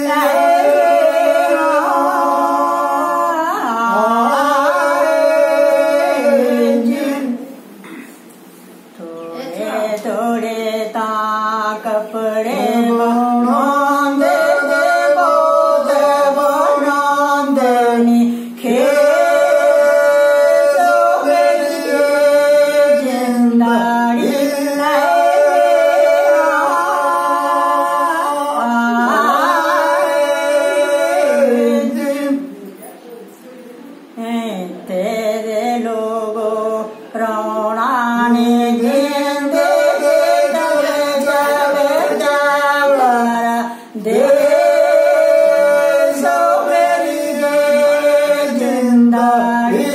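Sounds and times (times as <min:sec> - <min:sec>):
woman singing unaccompanied: 0:00.0 - 0:07.4, 0:09.0 - 0:32.5, 0:34.1 - 0:49.9.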